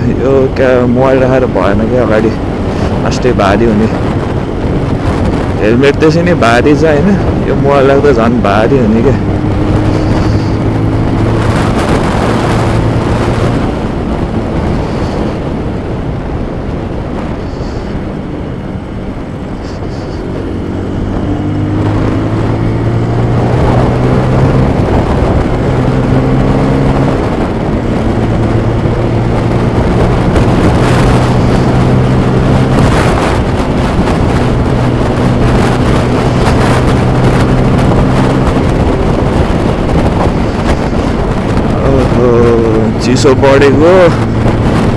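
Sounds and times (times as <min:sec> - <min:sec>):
motorcycle engine running: 0:00.0 - 0:44.9
wind rushing over microphone: 0:00.0 - 0:44.9.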